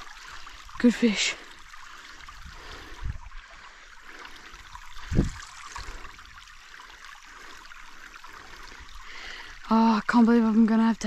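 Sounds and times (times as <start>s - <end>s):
creek water trickling over stones: 0.0s - 11.0s.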